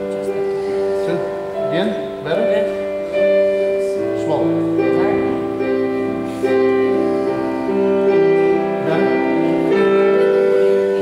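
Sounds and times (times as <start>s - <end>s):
slow keyboard chords: 0.0s - 11.0s.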